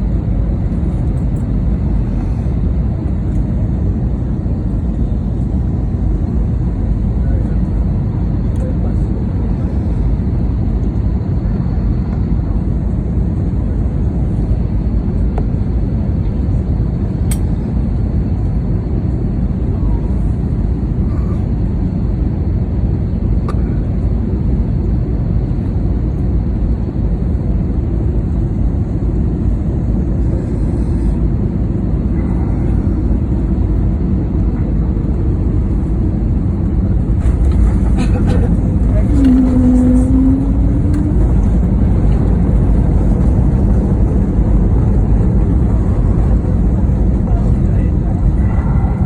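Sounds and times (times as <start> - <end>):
airliner engines roaring in cabin: 0.0 - 49.0.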